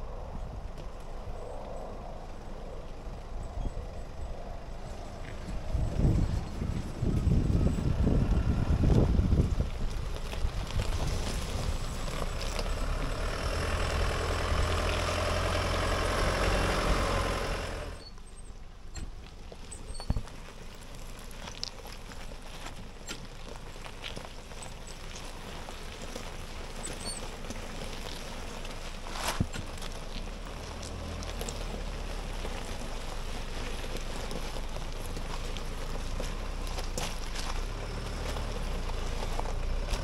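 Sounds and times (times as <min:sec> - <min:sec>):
low engine hum: 0:00.0 - 0:40.0
tyres crunching on stones: 0:00.4 - 0:40.0.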